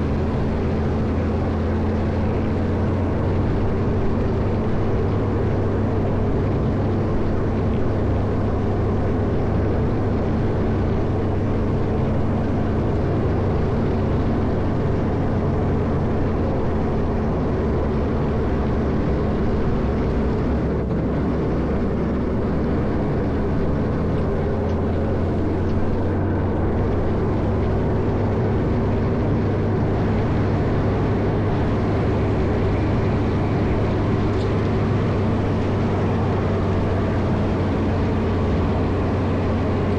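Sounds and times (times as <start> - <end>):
diesel engine droning under load: 0.0 - 39.9.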